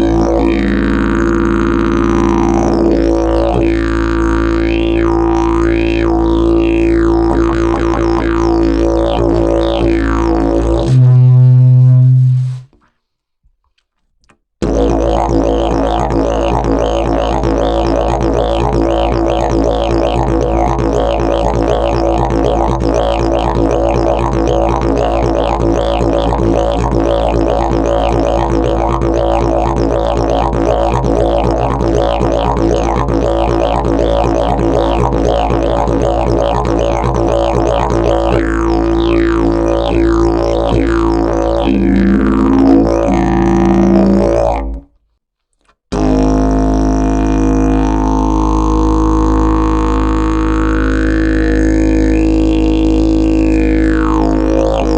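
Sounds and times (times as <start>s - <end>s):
didgeridoo drone: 0.0s - 12.5s, 14.6s - 44.8s, 45.9s - 54.9s.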